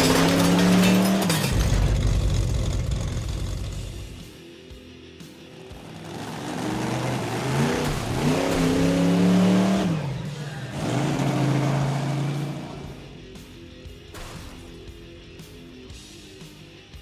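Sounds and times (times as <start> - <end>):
car engine revving: 0.0 - 4.3, 5.5 - 15.9.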